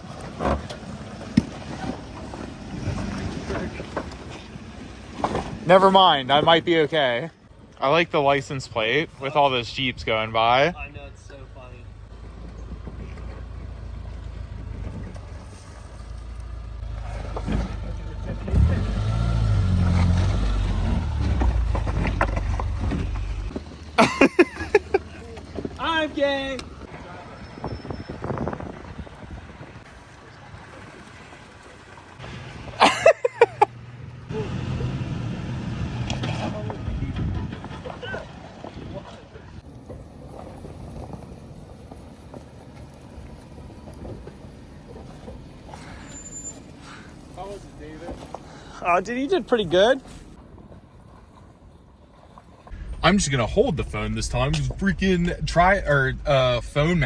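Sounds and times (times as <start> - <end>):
engine rumbling under load: 0.0 - 57.0.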